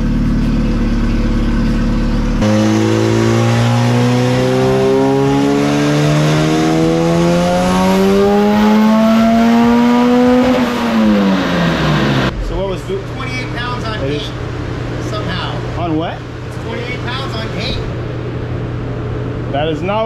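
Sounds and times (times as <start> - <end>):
car engine revving under load: 0.0 - 16.7.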